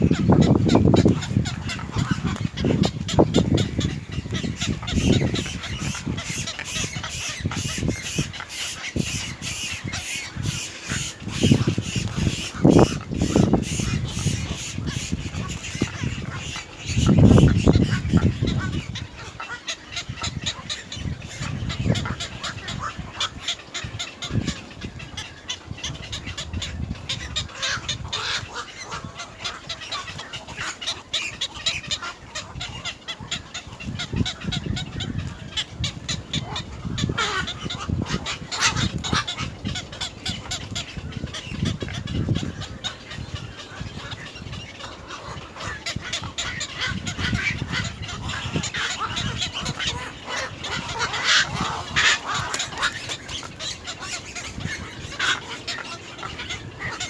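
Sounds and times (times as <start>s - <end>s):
birds giving harsh honk-like calls: 0.1s - 57.0s.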